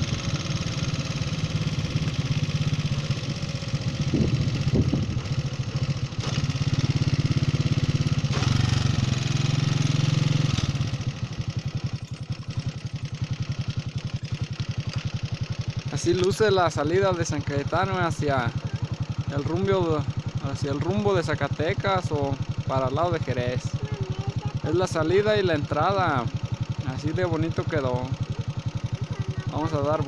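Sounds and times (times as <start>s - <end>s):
vehicle engine driving: 0.0s - 30.0s.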